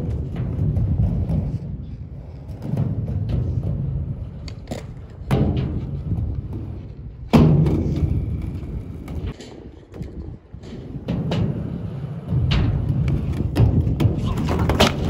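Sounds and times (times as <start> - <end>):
skateboard wheels rolling on concrete: 0.0 - 15.0.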